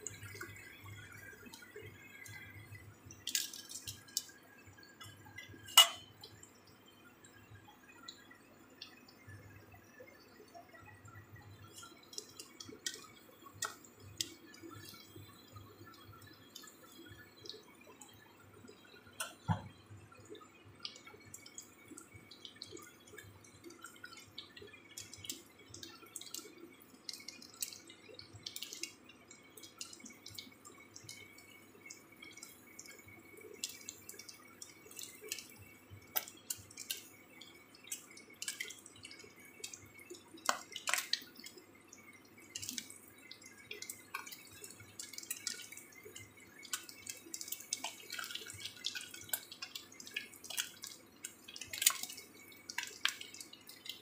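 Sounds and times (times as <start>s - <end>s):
batter frying in oil: 0.0s - 54.0s.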